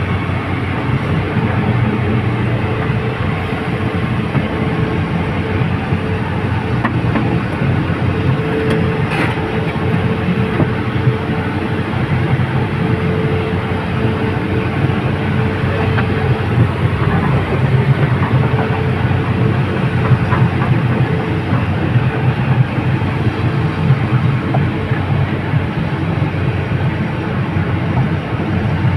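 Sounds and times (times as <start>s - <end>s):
excavator engine running: 0.0s - 28.9s.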